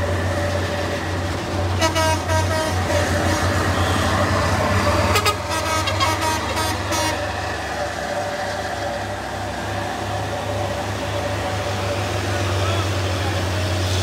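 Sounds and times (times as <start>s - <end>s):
diesel truck engine labouring: 0.0s - 14.0s.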